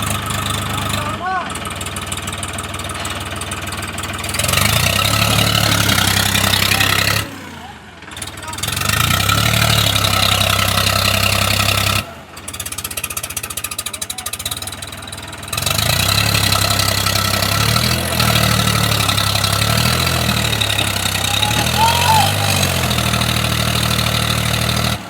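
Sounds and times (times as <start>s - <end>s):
tractor engine running hard: 0.0s - 25.0s.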